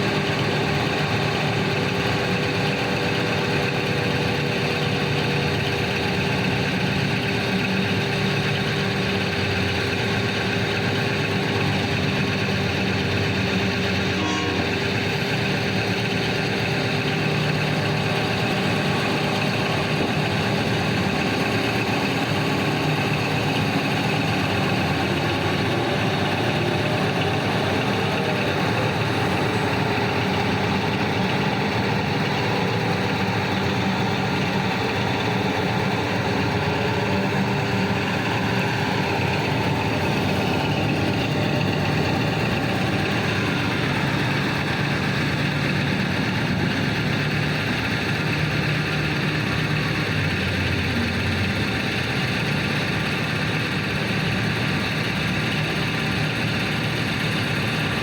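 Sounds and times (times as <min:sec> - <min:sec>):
heavy diesel engines droning: 0:00.0 - 0:58.0.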